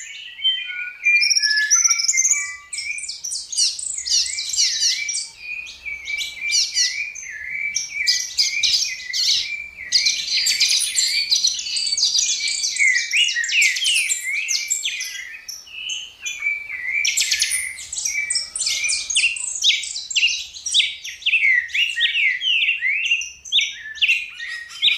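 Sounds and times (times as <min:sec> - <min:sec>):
birds singing: 0:00.0 - 0:24.9.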